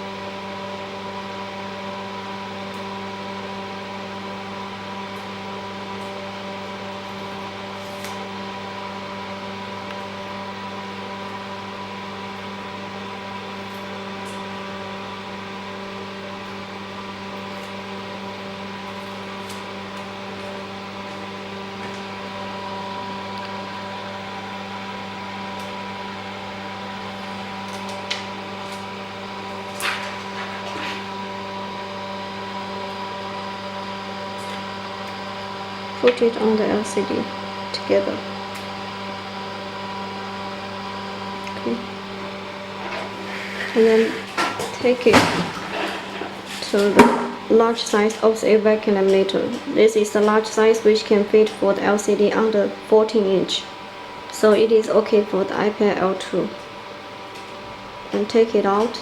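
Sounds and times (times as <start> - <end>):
electrical machine hum: 0.0 - 59.0.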